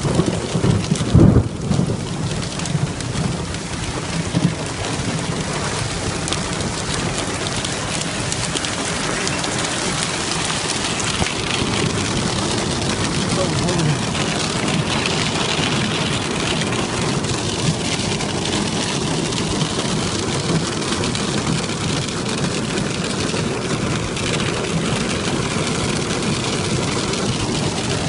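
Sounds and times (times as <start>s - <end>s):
rain hiss: 0.0s - 28.0s
vehicle running rumble: 0.0s - 28.0s.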